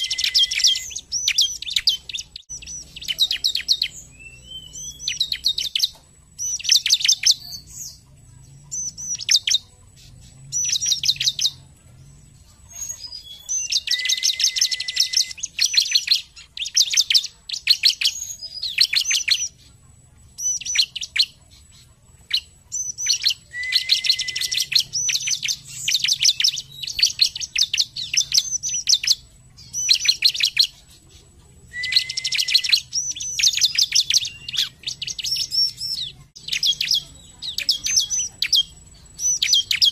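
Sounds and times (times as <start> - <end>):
bird rapid high chirping: 0.0 - 39.9.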